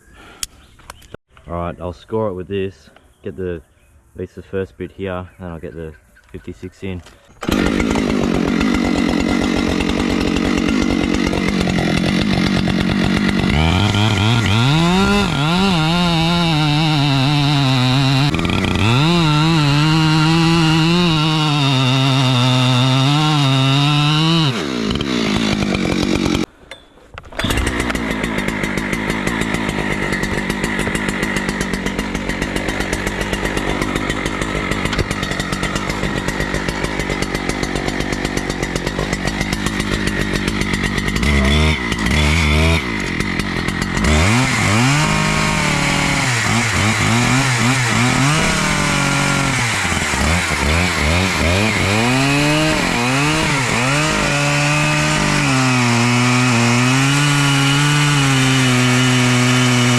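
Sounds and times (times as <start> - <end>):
chainsaw cutting tree trunk: 7.4 - 26.5, 27.2 - 59.9.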